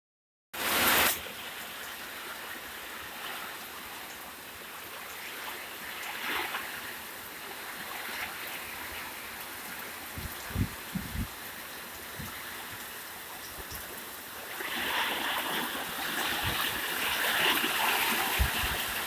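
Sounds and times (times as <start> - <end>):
heavy rain and wind: 0.6 - 19.0.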